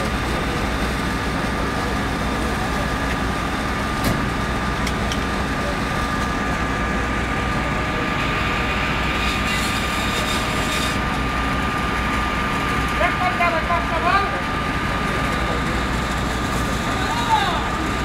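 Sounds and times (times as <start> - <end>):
fire engine motor running: 0.0 - 18.0.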